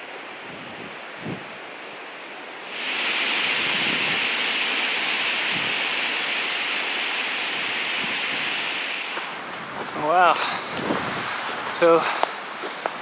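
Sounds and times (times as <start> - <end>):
wind rushing through trees: 0.0 - 13.0.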